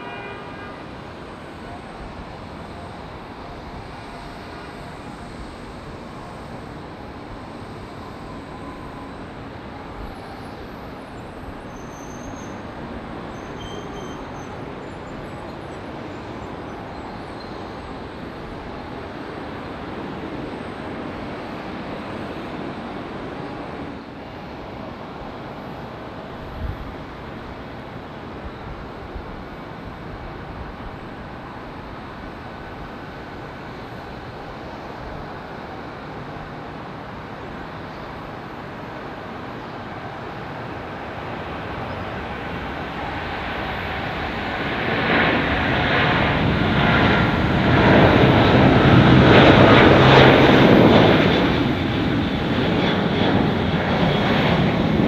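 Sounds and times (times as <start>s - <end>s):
distant jet engines at takeoff: 0.0s - 55.0s.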